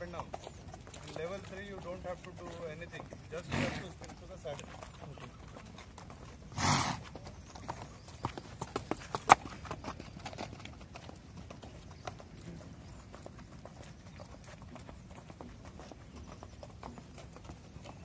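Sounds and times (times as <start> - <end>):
hooves on sand: 0.0 - 18.0.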